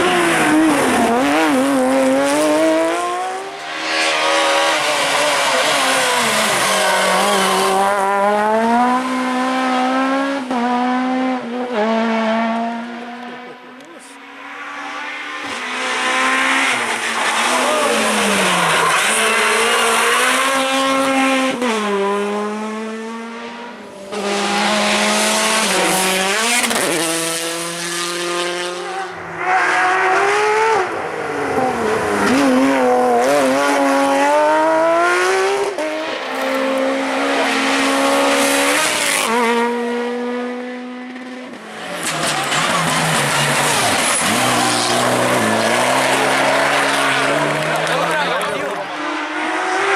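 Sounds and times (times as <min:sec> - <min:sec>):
rally car engines revving hard: 0:00.0 - 0:49.9.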